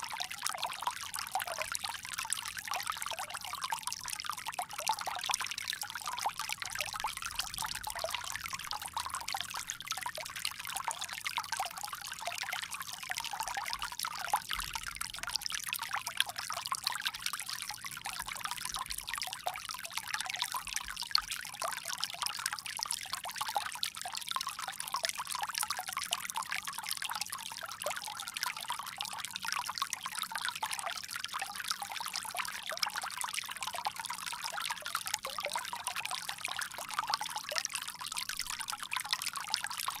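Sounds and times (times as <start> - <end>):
water trickling from spout: 0.0 - 40.0.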